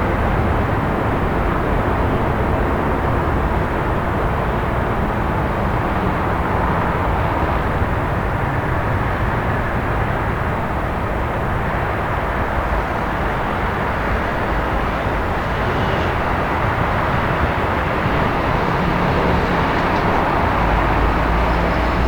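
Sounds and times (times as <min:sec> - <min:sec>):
city traffic: 0:00.0 - 0:22.0.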